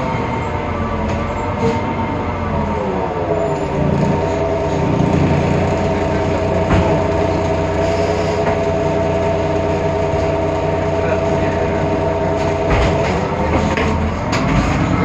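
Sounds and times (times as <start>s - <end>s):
bus driveline whine: 0.0s - 15.0s.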